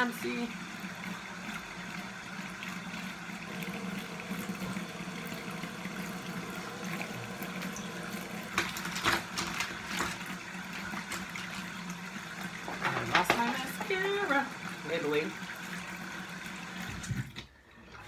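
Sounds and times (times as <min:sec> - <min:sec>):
tap water running into sink: 0:00.0 - 0:18.0.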